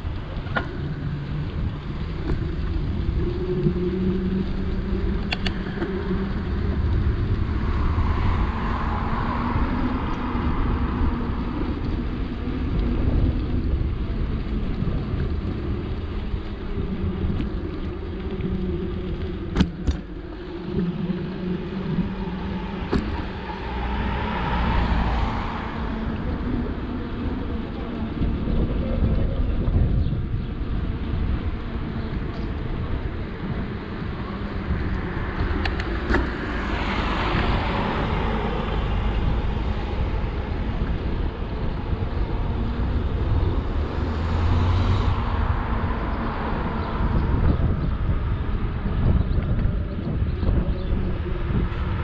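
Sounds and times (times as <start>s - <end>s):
car passing: 0.0s - 29.3s, 30.6s - 52.0s
wind and bicycle tyres rumbling: 0.0s - 52.0s.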